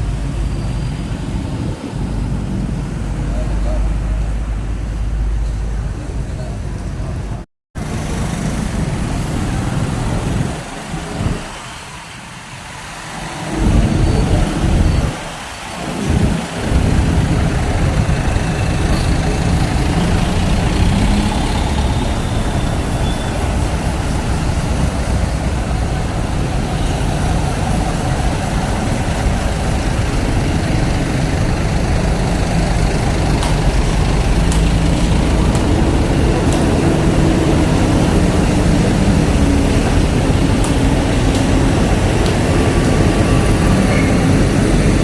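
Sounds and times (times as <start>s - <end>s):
low rumble of traffic: 0.0s - 45.0s.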